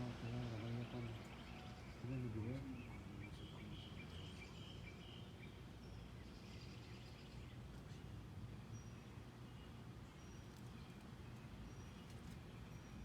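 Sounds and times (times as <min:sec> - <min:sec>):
faint low outdoor noise: 0:00.0 - 0:13.0.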